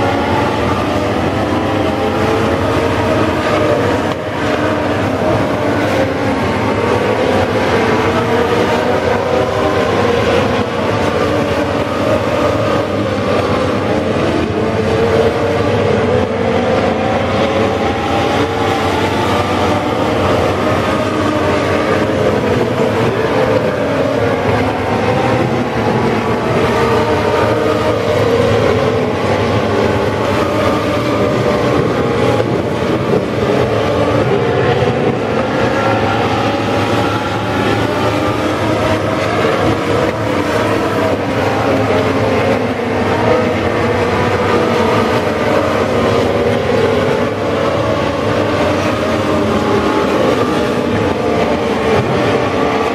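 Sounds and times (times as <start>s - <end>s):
race car engines revving: 0.0s - 52.9s.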